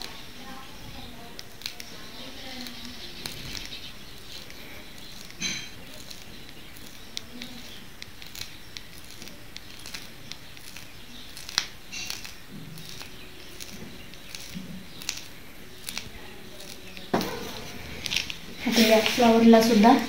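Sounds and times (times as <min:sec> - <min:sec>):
piping bag clicks and crinkles: 0:00.0 - 0:20.0.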